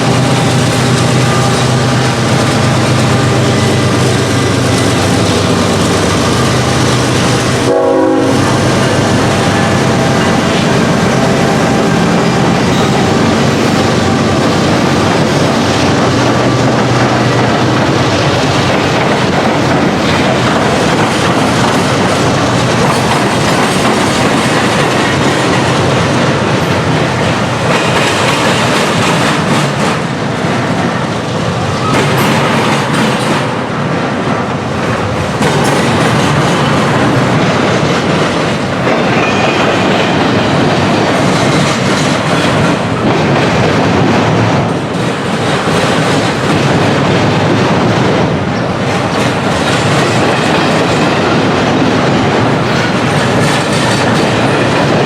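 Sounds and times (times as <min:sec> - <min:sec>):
wheels clattering over rail joints: 0:08.5 - 0:55.0.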